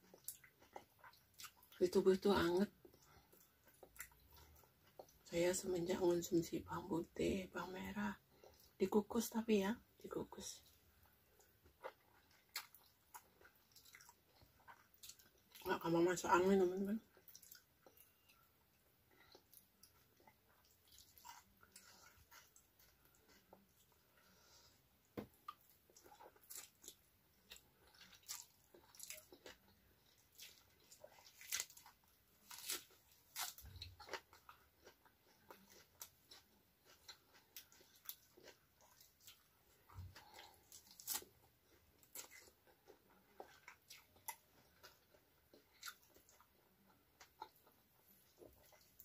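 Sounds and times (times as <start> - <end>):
person chewing food: 0.0 - 1.8, 2.6 - 5.3, 8.2 - 8.8, 10.6 - 15.7, 17.0 - 49.0.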